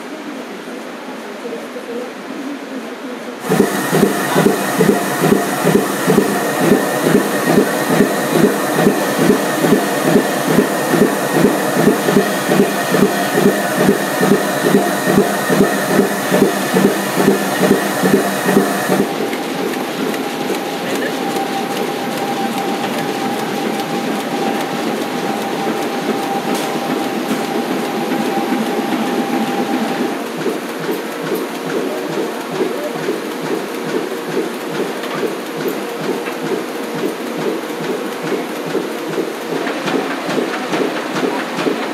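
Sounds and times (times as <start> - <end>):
machine whine: 3.4 - 41.9
printing press clattering: 3.4 - 41.9.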